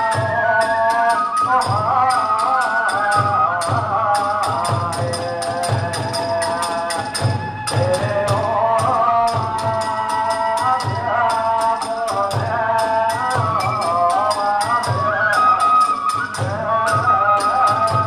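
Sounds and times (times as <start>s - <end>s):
hand cymbals clashing: 0.0s - 16.5s
bamboo flute melody: 0.0s - 18.0s
big drum beating: 3.1s - 18.0s.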